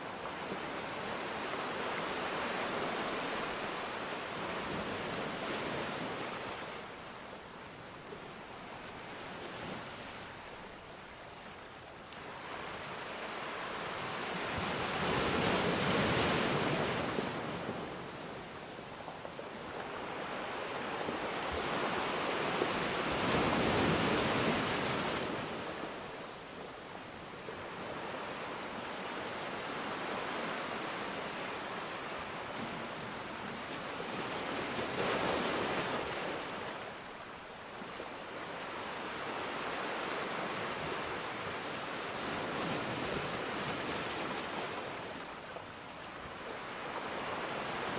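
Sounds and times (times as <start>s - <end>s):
sea waves washing on shore: 0.0s - 47.9s.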